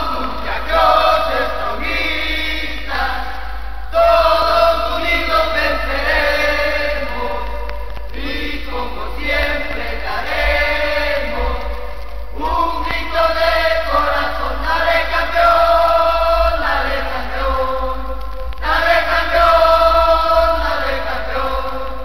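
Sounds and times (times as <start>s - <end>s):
crowd chanting in unison: 0.0s - 22.0s.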